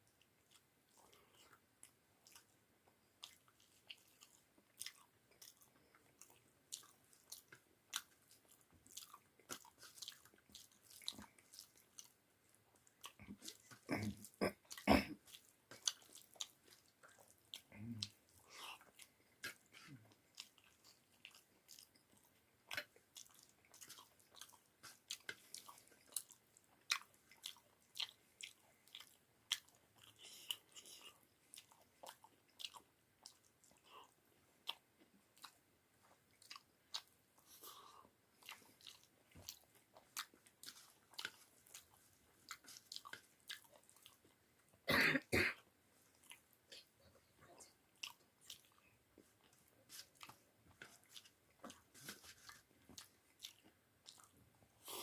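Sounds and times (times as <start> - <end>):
person chewing: 0.2 - 45.3, 46.0 - 55.0.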